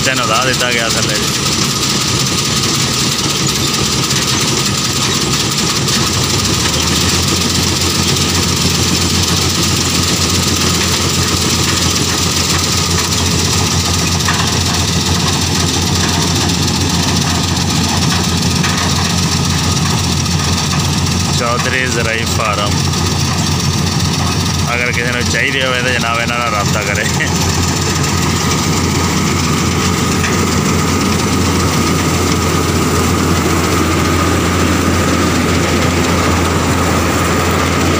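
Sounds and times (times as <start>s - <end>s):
combine harvester engine drone: 0.0s - 37.9s
cutting and threshing machinery: 0.0s - 37.9s
deep engine hum: 0.0s - 37.9s.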